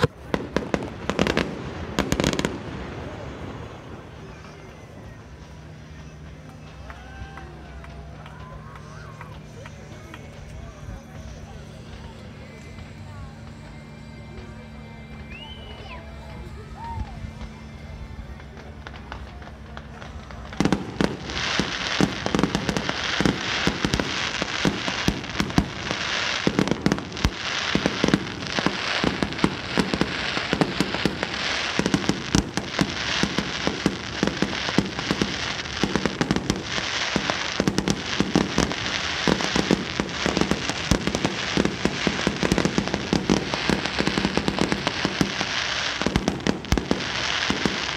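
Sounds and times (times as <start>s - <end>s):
fireworks bangs: 0.0s - 47.9s
fireworks crackling and popping: 0.0s - 47.9s.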